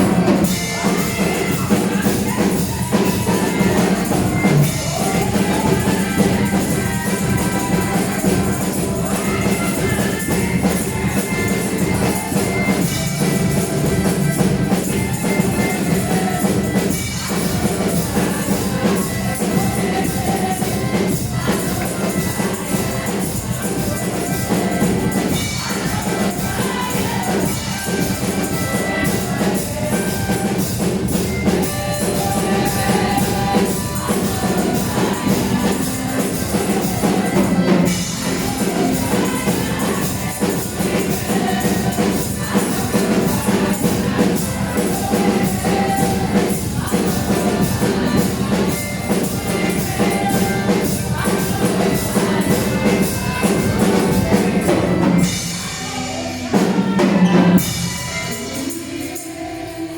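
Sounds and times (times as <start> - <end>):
drums: 0.0 - 59.8
praise music: 0.0 - 59.9
tambourine: 0.0 - 59.9.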